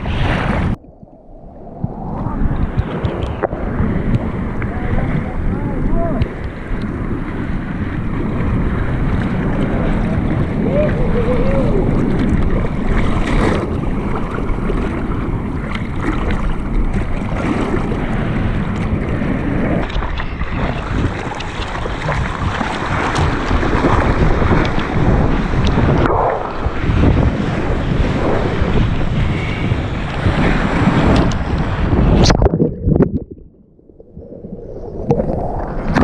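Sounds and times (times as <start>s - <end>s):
water rushing along board: 0.0s - 36.0s
wind buffeting microphone: 0.0s - 36.0s.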